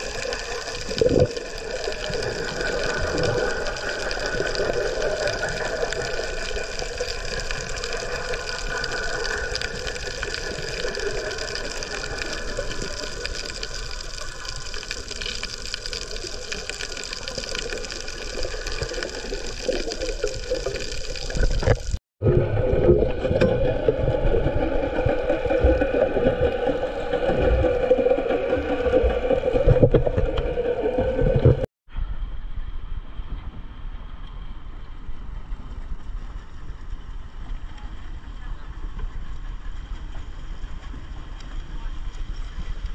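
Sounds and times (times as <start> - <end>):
muffled underwater wash: 0.0 - 42.9.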